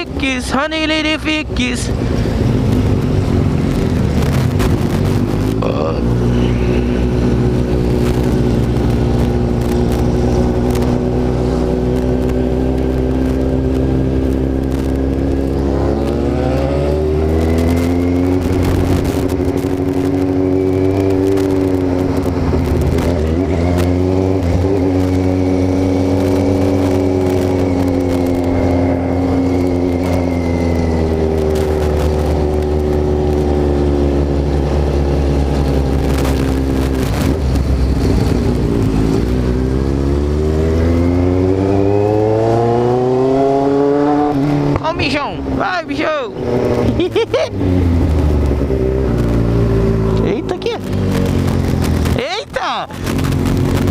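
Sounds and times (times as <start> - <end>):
motorcycle engine accelerating: 1.9 - 53.9.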